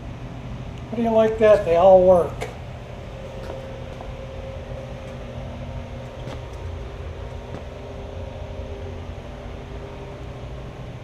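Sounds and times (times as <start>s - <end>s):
electric fans humming and whirring: 0.0s - 11.0s.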